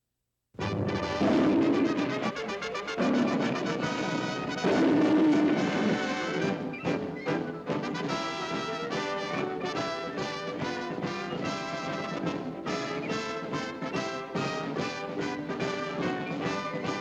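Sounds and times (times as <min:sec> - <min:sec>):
orchestral cartoon music with brass: 0:00.6 - 0:17.0.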